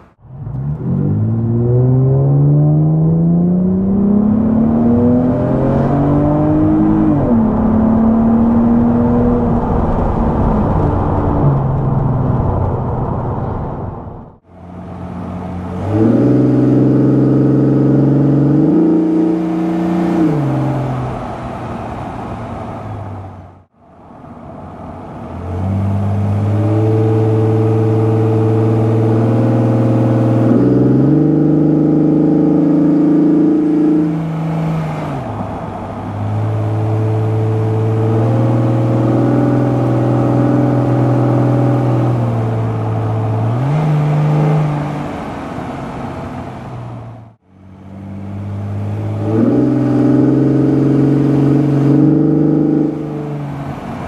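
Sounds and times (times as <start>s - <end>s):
car engine revving: 0.0s - 21.6s, 25.3s - 54.0s.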